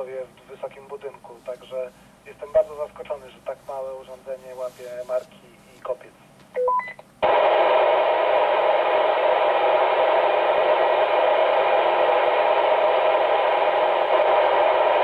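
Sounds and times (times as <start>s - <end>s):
radio static hiss: 0.0s - 6.3s, 7.2s - 15.0s.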